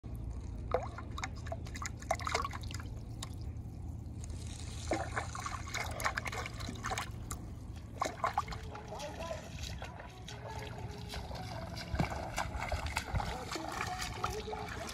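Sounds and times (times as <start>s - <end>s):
low steady hum: 0.0s - 14.9s
water splashing and dripping: 0.4s - 14.9s.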